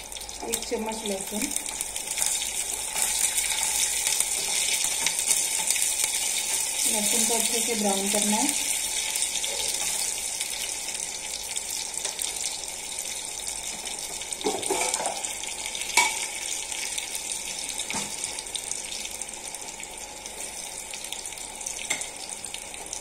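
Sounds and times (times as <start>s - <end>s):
garlic sizzling in ghee: 0.0s - 23.0s.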